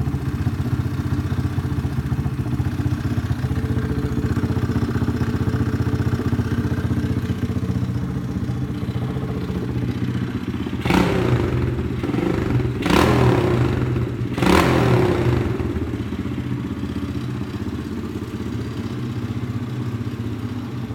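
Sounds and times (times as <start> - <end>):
motorbike engine idling and revving: 0.0 - 20.9.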